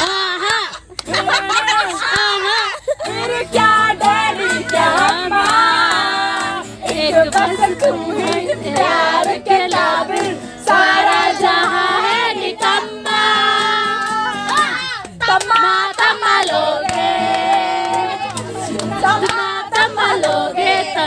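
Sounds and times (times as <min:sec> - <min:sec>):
hand claps: 0:00.0 - 0:02.5, 0:03.1 - 0:11.6, 0:13.9 - 0:21.0
people singing together: 0:00.0 - 0:21.0
strummed acoustic guitar: 0:00.9 - 0:15.2, 0:15.9 - 0:21.0.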